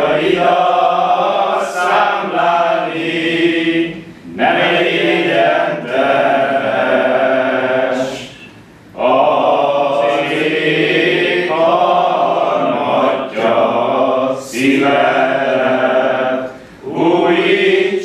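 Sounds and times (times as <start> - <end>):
voices singing together: 0.0 - 18.0.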